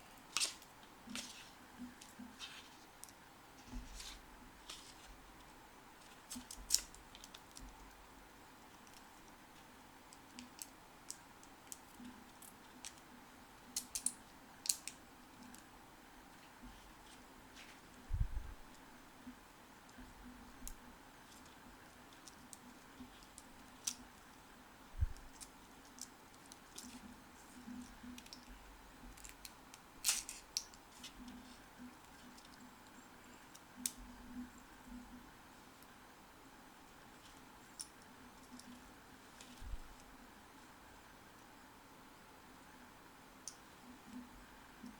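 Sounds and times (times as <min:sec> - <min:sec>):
faint low hum: 0:00.0 - 0:44.9.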